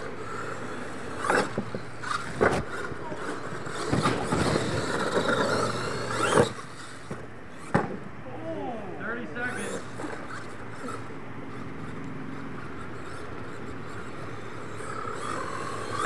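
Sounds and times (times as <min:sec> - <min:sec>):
toy truck motor running: 0:00.0 - 0:08.0, 0:09.5 - 0:16.0
tyres scrabbling through dirt: 0:00.0 - 0:08.1, 0:09.5 - 0:16.0.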